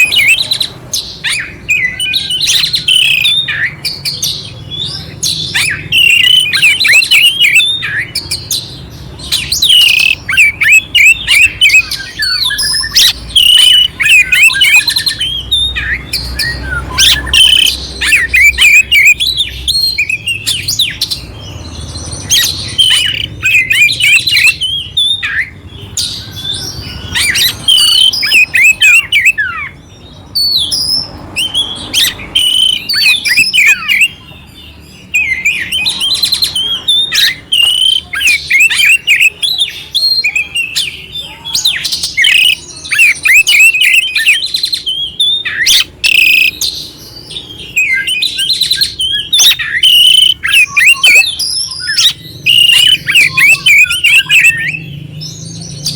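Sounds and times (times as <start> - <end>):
magpie-robin singing: 0.0 - 55.9.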